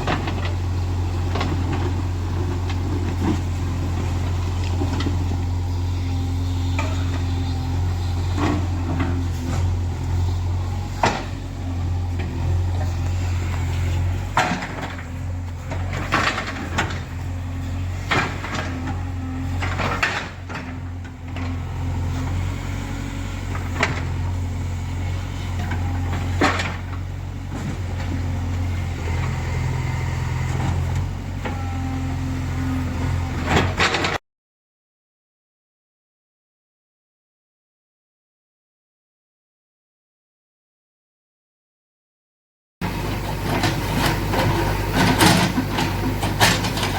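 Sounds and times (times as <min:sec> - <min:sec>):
diesel engine running: 0:00.0 - 0:34.0, 0:42.8 - 0:46.9.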